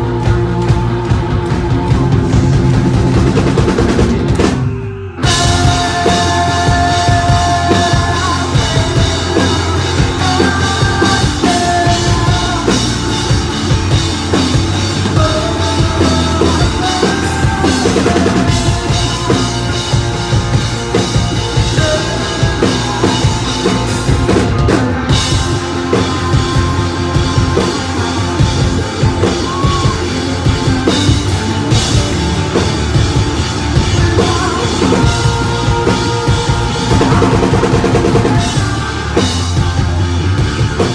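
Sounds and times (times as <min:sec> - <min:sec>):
drum kit beat: 0:00.0 - 0:40.9
live rock band playing: 0:00.0 - 0:40.9.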